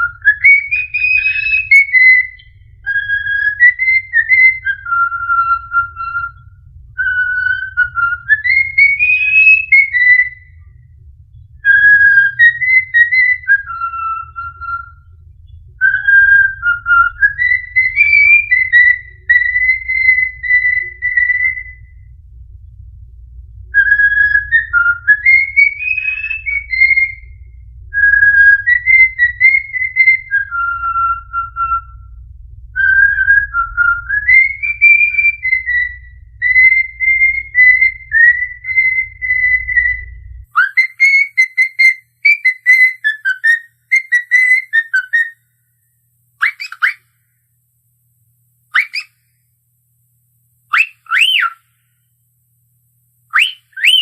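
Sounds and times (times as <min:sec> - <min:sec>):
bird whistling a tune: 0:00.0 - 0:10.8, 0:11.6 - 0:22.1, 0:23.7 - 0:32.2, 0:32.8 - 0:45.4, 0:46.4 - 0:47.1, 0:48.7 - 0:49.2, 0:50.7 - 0:51.7, 0:53.3 - 0:54.0
short rising whistles: 0:00.0 - 0:22.2, 0:23.7 - 0:45.4, 0:46.4 - 0:47.1, 0:48.7 - 0:49.2, 0:50.7 - 0:51.6, 0:53.3 - 0:54.0
low hum: 0:00.0 - 0:54.0.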